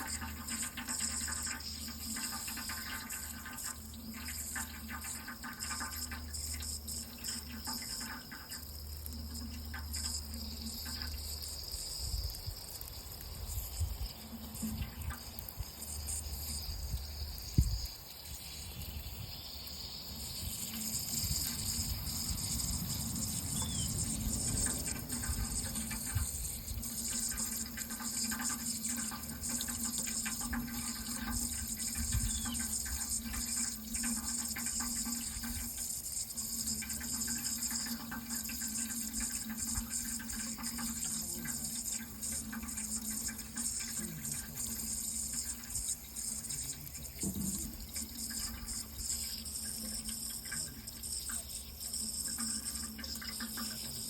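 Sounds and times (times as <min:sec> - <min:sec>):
water running: 0:00.0 - 0:54.0.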